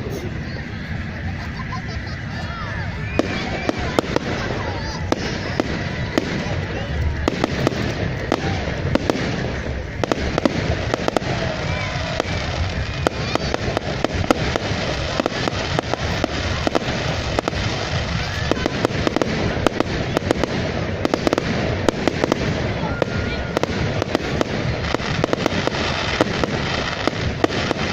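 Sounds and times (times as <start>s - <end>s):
fireworks crackling and popping: 0.0s - 27.9s
steady rumble: 0.0s - 27.9s.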